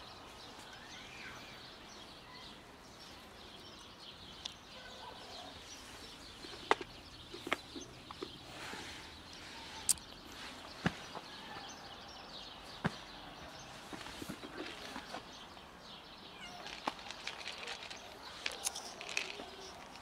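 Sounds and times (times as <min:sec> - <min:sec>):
faint birds chirping: 0:00.0 - 0:20.0
outdoor background noise: 0:00.0 - 0:20.0.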